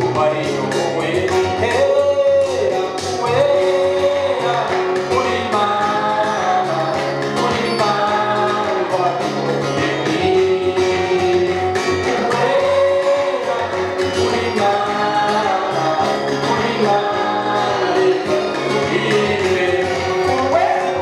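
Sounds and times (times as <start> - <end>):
man singing gospel song: 0.0 - 21.0
percussion beat: 0.0 - 21.0
strummed acoustic guitar: 0.0 - 21.0.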